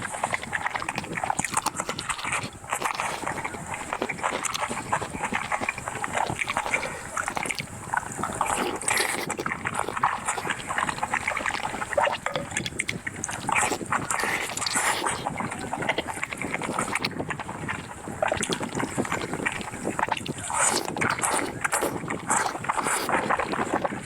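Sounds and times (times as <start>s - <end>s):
chewing and mouth smacking: 0.0s - 24.0s.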